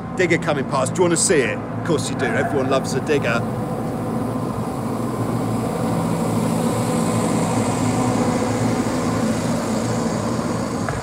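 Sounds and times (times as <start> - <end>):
diesel excavator driving past: 0.0 - 11.0.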